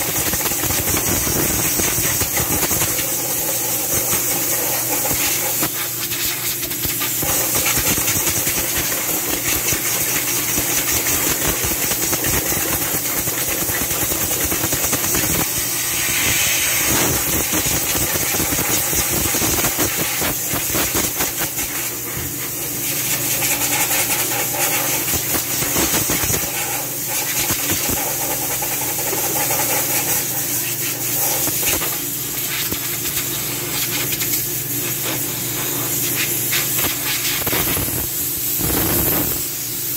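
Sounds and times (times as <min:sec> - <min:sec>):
compressed air hissing: 0:00.0 - 0:39.9.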